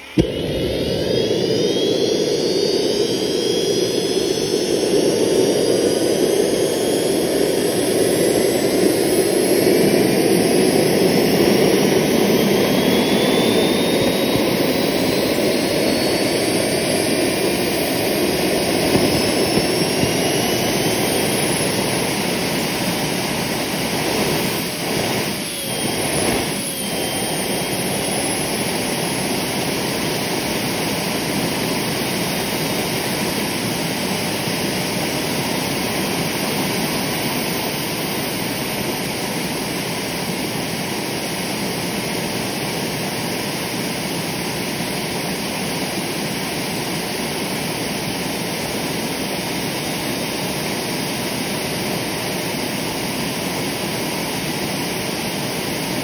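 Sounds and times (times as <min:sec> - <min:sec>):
high turbine whine: 0:00.0 - 0:56.0
jet engine rushing: 0:00.0 - 0:56.0.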